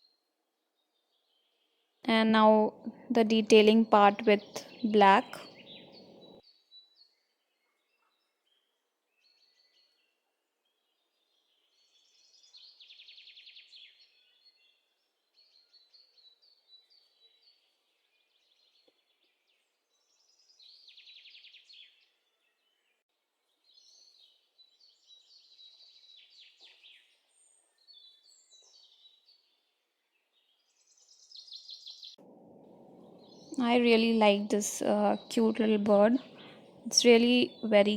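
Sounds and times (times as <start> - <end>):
faint bird chirps and trills: 0.0 - 37.9.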